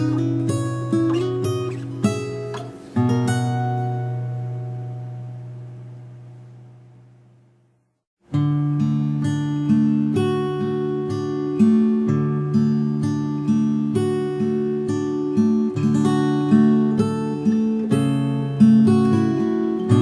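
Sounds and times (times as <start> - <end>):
fingerpicked acoustic guitar: 0.0 - 7.3, 8.2 - 20.0.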